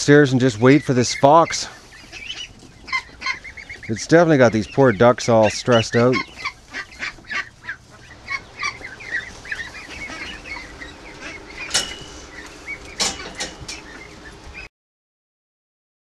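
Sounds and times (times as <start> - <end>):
ducks calling: 0.0 - 14.7.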